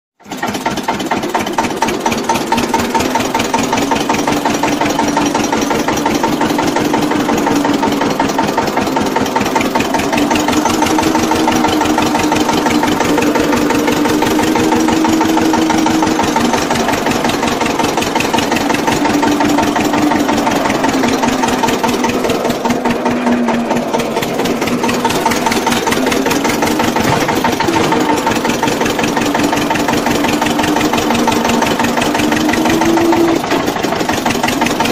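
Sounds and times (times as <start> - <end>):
small tractor engine chugging: 0.2 - 34.9.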